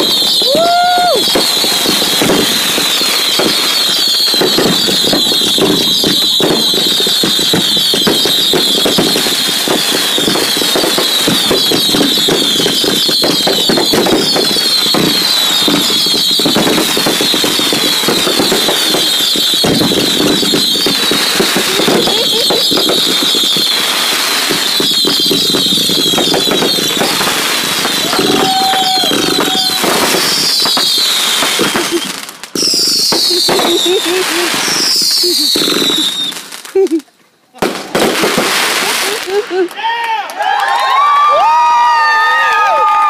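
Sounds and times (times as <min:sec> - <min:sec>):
fireworks shrill whistles: 0:00.0 - 0:37.0, 0:37.6 - 0:39.7
fireworks crackling and bangs: 0:00.0 - 0:43.0.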